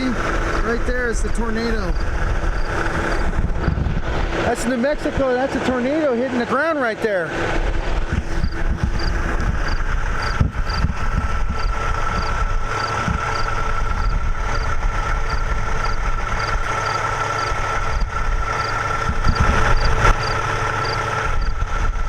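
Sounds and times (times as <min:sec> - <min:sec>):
steady whine: 0:00.0 - 0:22.0
truck diesel engine drone: 0:00.0 - 0:22.0.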